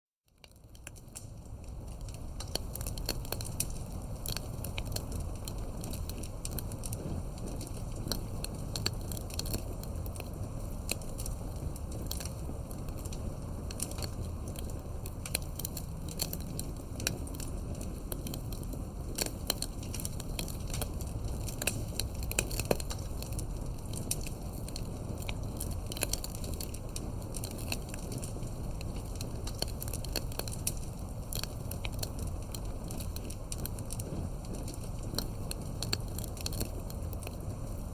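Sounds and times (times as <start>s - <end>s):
campfire crackling and popping: 0.3s - 37.9s
low fire rumble: 0.3s - 37.9s.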